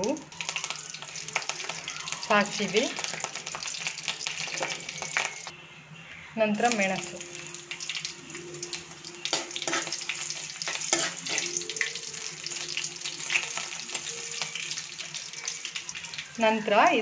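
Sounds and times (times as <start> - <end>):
seasoning sizzling in hot oil: 0.0 - 5.5, 6.6 - 17.0.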